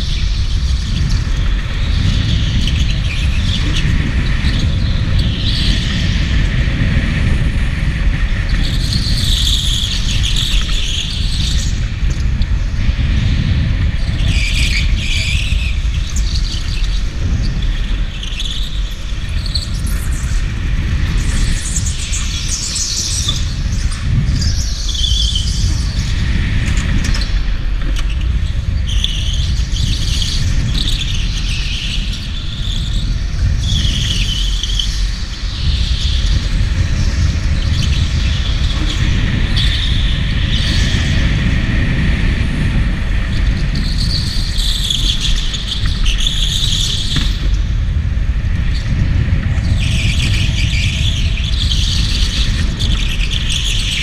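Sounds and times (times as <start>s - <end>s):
go-kart low rumble: 0.0s - 54.0s.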